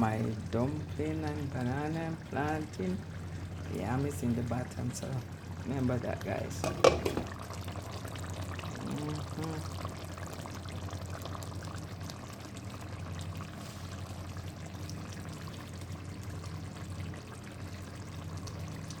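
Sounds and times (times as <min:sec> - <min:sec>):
low steady hum: 0:00.0 - 0:19.0
water boiling and bubbling: 0:00.0 - 0:19.0.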